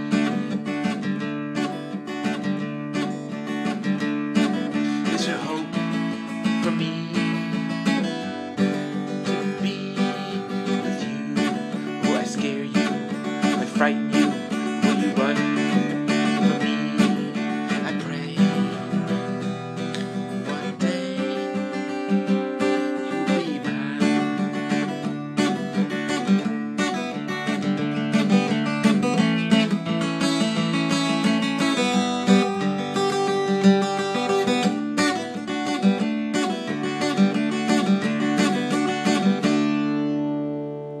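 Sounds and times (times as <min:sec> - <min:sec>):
acoustic guitar strumming chords: 0:00.0 - 0:41.0.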